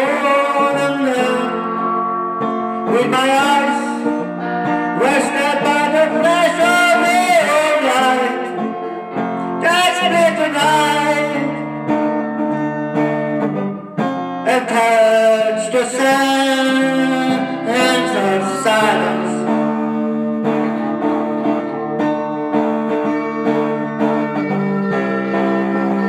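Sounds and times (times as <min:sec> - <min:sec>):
guitar music: 0:00.0 - 0:26.0.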